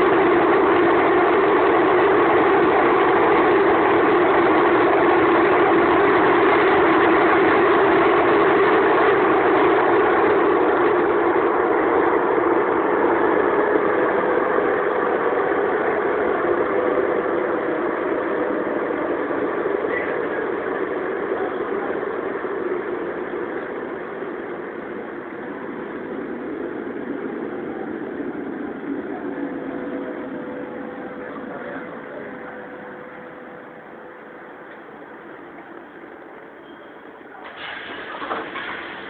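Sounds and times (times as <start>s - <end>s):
faint steady whine: 0.0s - 39.0s
train wheels and motors rumbling: 0.0s - 39.0s.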